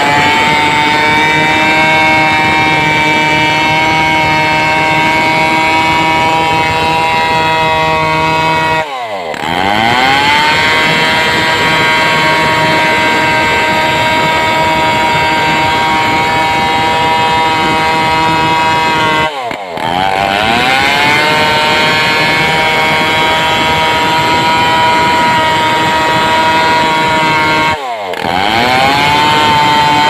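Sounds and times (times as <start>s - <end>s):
chainsaw sawing log: 0.0s - 30.0s.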